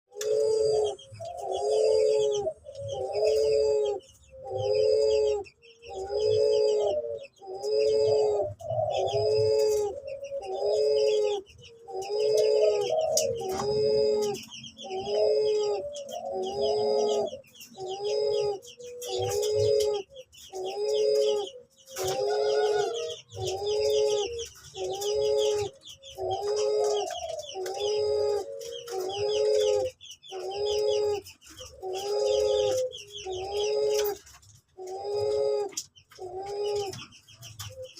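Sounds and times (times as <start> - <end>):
dove cooing: 0.1 - 37.9.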